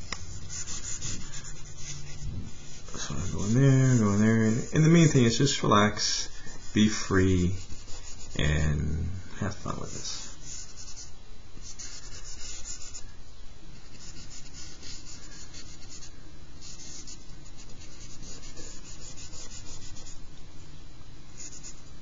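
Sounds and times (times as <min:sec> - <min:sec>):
charcoal scratching on paper: 0:00.0 - 0:05.6, 0:06.4 - 0:08.6, 0:09.7 - 0:13.0, 0:13.8 - 0:20.2, 0:21.4 - 0:21.8.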